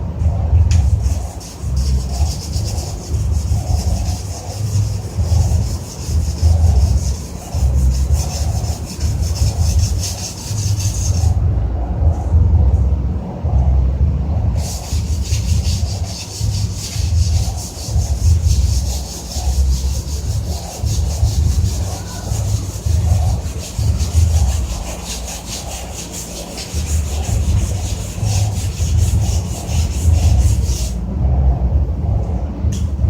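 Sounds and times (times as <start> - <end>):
loud uneven low rumble: 0.0 - 33.0
scrubbing strokes on metal casing: 0.7 - 11.5, 14.5 - 31.0.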